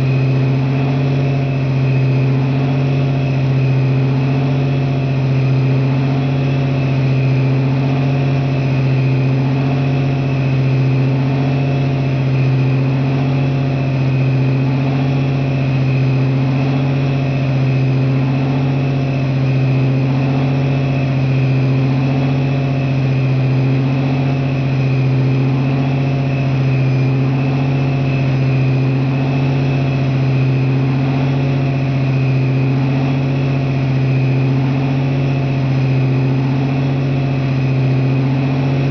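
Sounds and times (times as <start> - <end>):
diesel engine droning: 0.0 - 38.9
high steady whine: 0.0 - 38.9.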